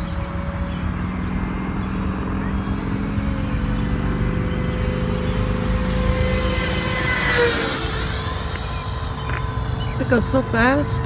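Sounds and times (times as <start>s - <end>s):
model jet fan whine: 0.0s - 11.0s.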